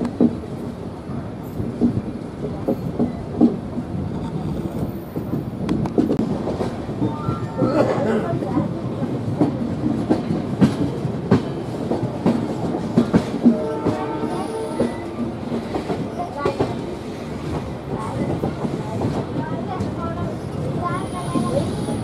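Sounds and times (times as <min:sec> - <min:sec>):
train wheels clattering over rails: 0:00.0 - 0:22.0.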